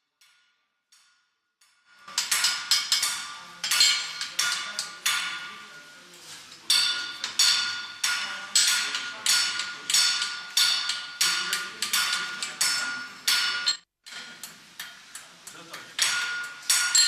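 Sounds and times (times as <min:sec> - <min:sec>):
hammer striking iron on anvil: 0:00.2 - 0:17.0.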